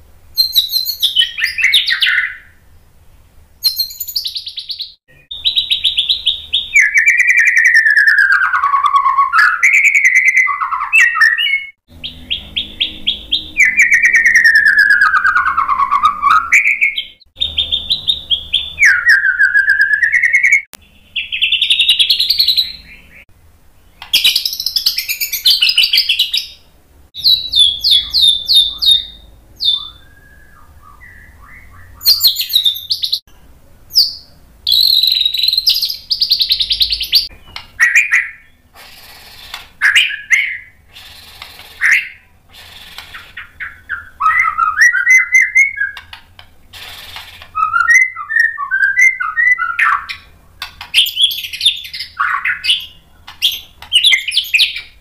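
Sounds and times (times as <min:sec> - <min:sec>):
bird singing trills and whistles: 0:00.4 - 0:02.6, 0:03.6 - 0:26.6, 0:27.2 - 0:33.3, 0:33.9 - 0:46.2, 0:46.8 - 0:55.0.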